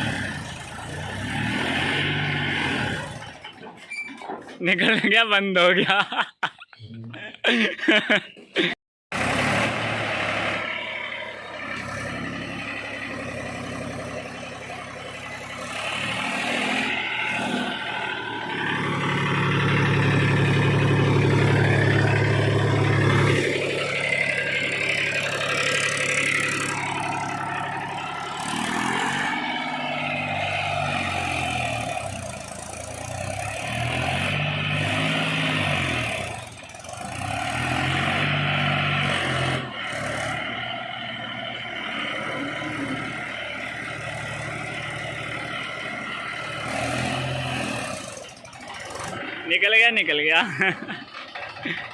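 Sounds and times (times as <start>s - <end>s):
tractor diesel engine revving: 0.0s - 3.8s, 8.6s - 51.9s.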